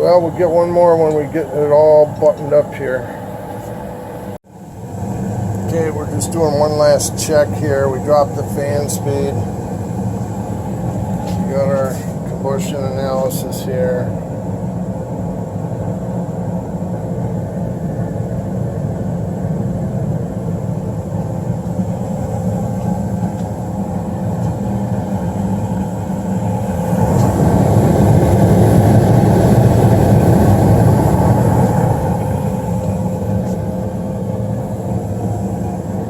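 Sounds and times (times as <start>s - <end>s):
gas furnace rumbling: 0.0s - 36.0s.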